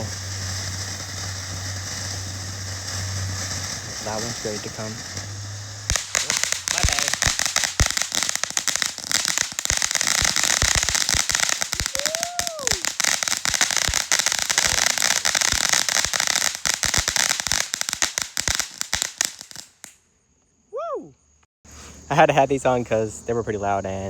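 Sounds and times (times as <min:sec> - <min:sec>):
firework crackling pops: 0:00.0 - 0:20.0
firework hiss: 0:00.0 - 0:20.0.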